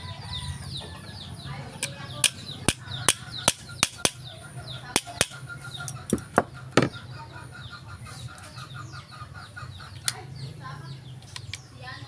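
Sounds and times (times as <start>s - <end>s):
chickens: 0.0s - 11.5s
small birds chirping: 0.0s - 12.0s.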